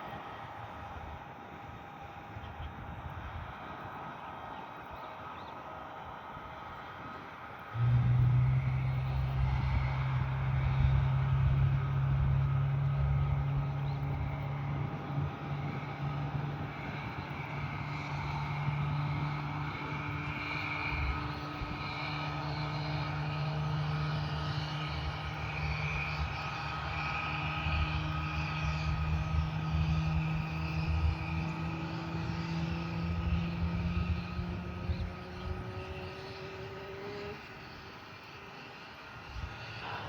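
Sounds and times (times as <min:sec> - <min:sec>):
aircraft engines whining: 0:00.0 - 0:40.0.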